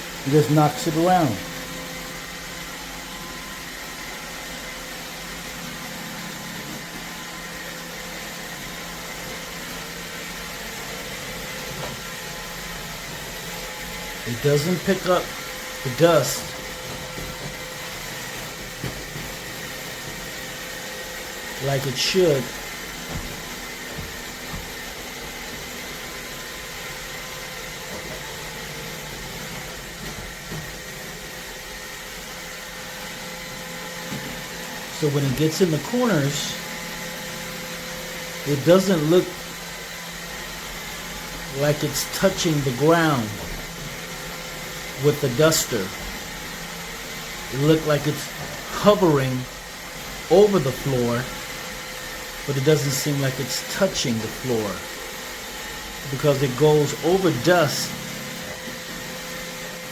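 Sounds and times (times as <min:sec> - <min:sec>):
robot vacuum whirring: 0:00.0 - 0:59.9.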